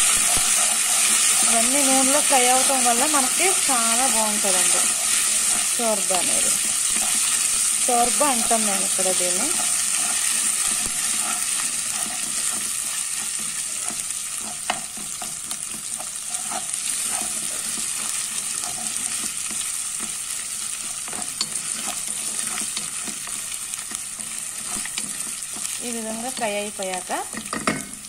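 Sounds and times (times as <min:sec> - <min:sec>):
wooden spoon scraping a pot: 0:00.0 - 0:27.5
pasta sizzling in oil: 0:00.0 - 0:28.0.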